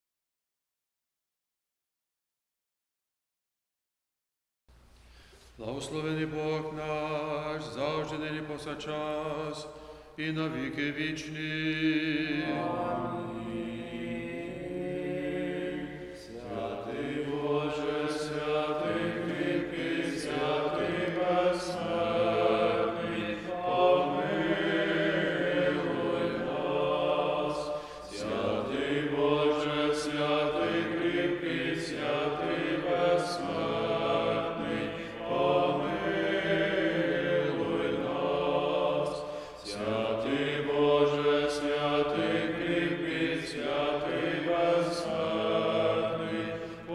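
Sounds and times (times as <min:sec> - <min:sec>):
men chanting a hymn: 0:05.6 - 0:46.9.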